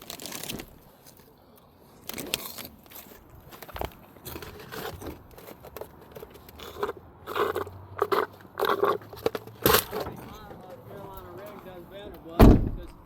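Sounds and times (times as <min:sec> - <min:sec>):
crunching and rustling handling noises: 0:00.0 - 0:13.0.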